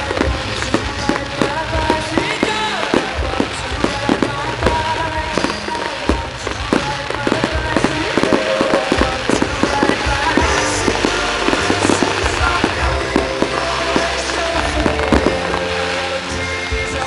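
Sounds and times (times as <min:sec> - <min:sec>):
fireworks bangs and crackles: 0:00.0 - 0:17.0
loud pop music: 0:00.0 - 0:17.0.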